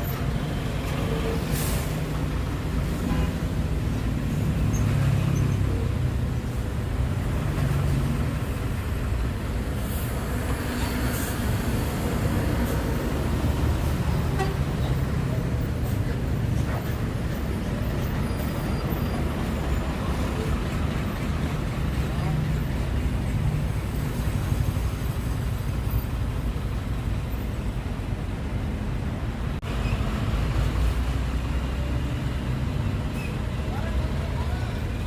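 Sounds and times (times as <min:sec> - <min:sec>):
heavy road traffic: 0:00.0 - 0:35.0.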